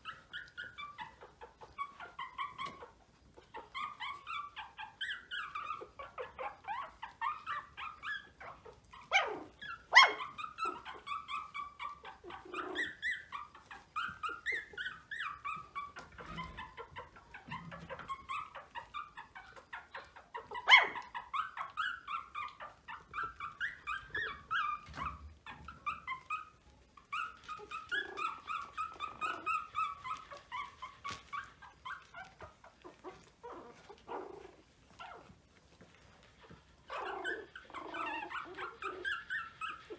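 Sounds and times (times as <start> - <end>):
puppies whimpering and squeaking: 0.0 - 39.9.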